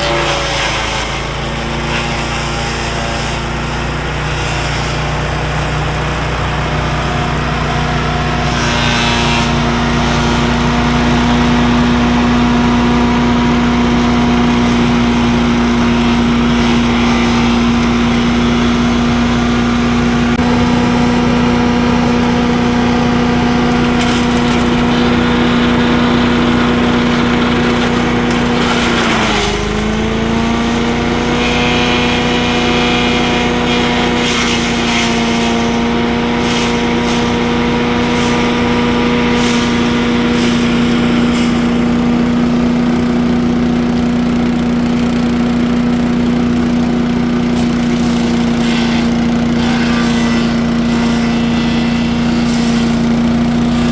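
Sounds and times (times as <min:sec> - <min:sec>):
wood chipper engine running: 0:00.0 - 0:53.9.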